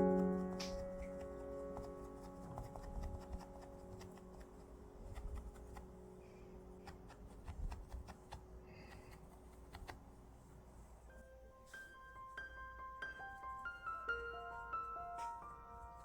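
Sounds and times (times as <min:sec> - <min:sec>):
quiet sustained music notes: 0:00.0 - 0:16.0.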